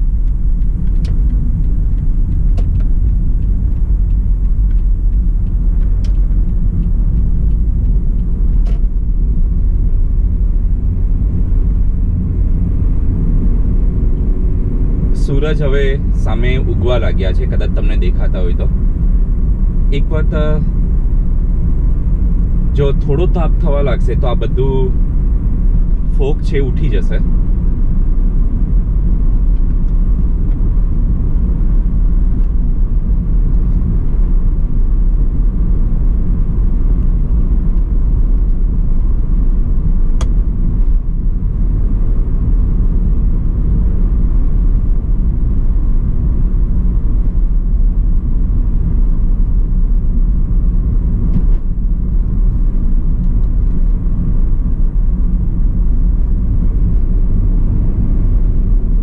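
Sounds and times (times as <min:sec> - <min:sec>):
road and engine rumble inside car: 0:00.0 - 0:59.0.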